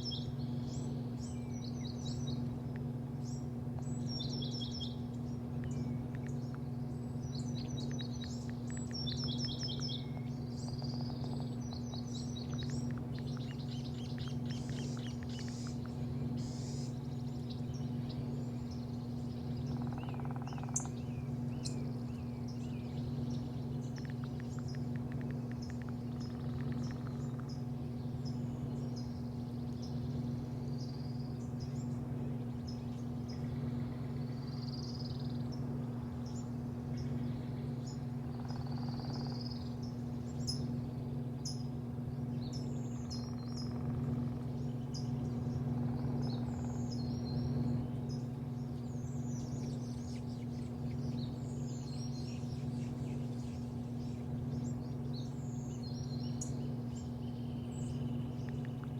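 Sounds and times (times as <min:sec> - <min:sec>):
birds chirping and trilling: 0:00.0 - 0:58.9
low machine hum: 0:00.0 - 0:58.9.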